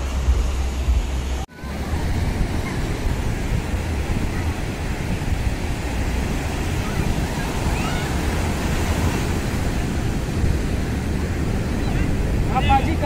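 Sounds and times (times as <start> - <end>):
ocean surf breaking: 0.0 - 13.0
wind rumble on microphone: 0.0 - 13.0.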